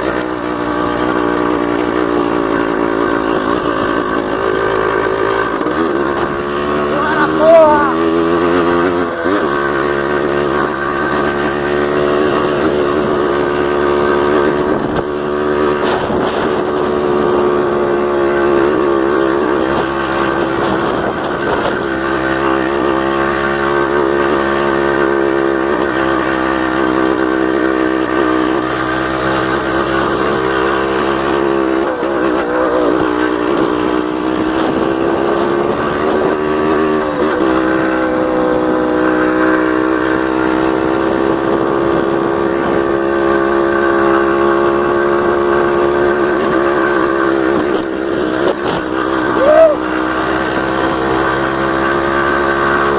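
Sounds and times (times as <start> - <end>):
two-stroke motorcycle engine revving: 0.0 - 52.9.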